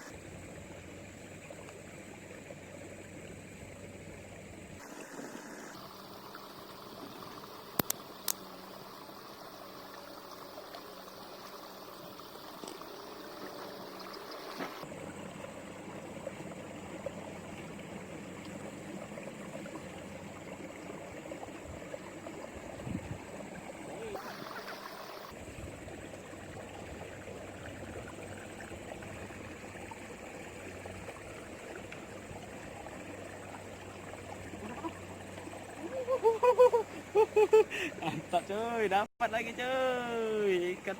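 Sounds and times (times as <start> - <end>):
flowing river water: 0.0 - 40.9.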